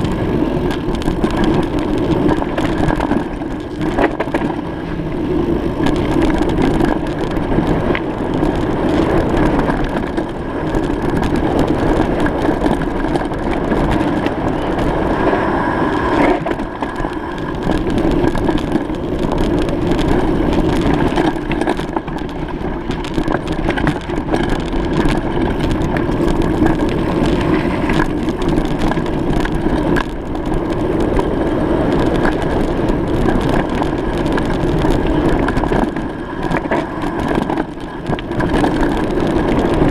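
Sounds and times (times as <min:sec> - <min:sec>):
bicycle crackling and rattling: 0:00.0 - 0:39.9
bicycle tyres rolling on rough surface: 0:00.0 - 0:39.9.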